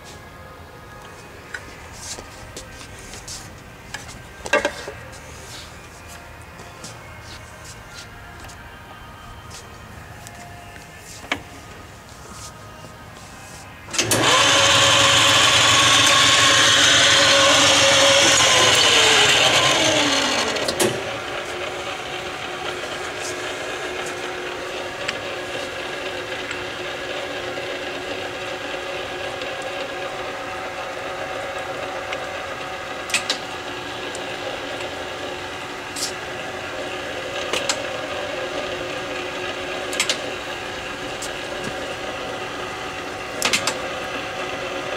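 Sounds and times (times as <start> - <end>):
lathe spindle high whine: 0.0 - 44.9
steady machine hum: 0.0 - 44.9.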